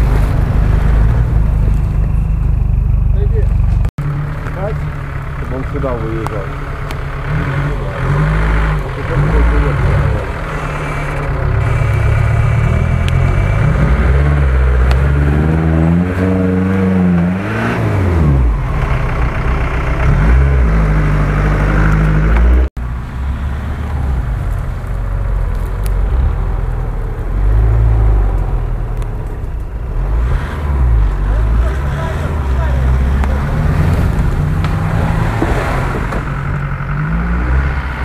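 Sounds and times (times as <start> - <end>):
pickup truck engine running: 0.0 - 13.6, 17.9 - 38.0
off-road vehicle engine revving: 0.0 - 38.0.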